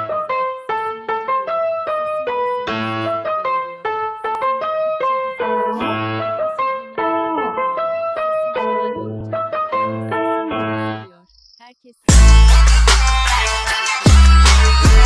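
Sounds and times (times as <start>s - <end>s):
keyboard melody: 0.0s - 11.1s, 12.1s - 15.0s.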